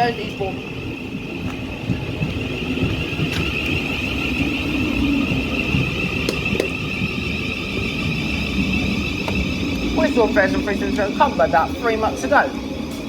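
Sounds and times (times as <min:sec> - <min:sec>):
electric train rumbling: 0:00.0 - 0:13.0
high whine: 0:00.0 - 0:13.0.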